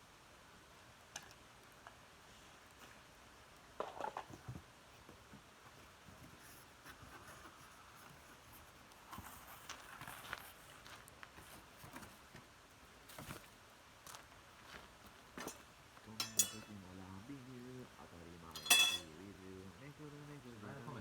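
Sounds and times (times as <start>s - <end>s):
low hiss: 0.0s - 21.0s.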